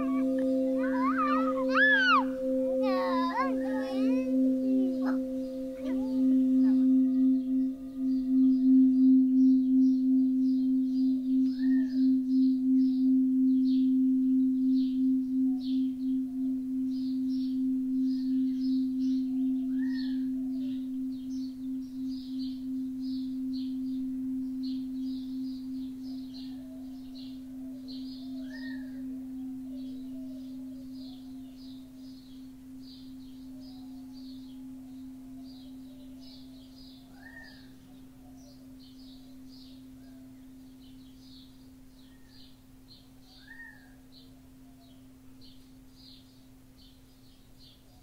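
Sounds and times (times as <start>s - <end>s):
singing bowl ringing: 0.0s - 41.9s.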